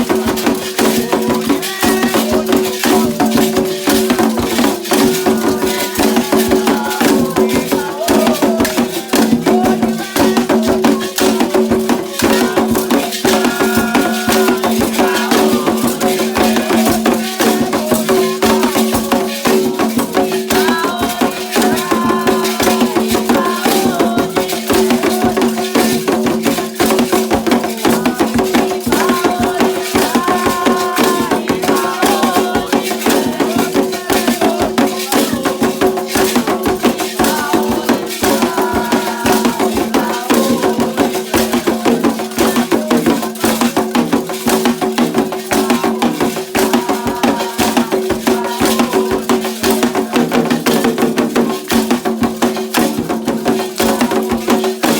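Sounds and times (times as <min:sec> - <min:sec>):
rattles and fast percussion: 0:00.0 - 0:54.9
voices singing: 0:00.0 - 0:54.9.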